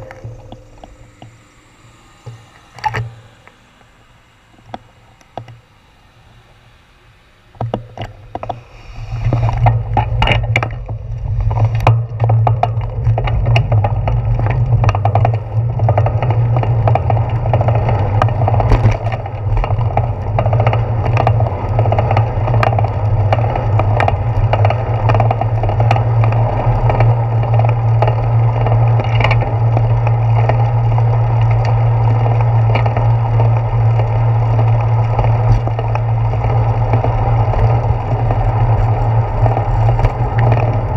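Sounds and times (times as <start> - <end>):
road vibration rumble: 0.0 - 40.9
wind on camera: 7.4 - 40.9
bicycle clicks and rattles: 7.5 - 40.9.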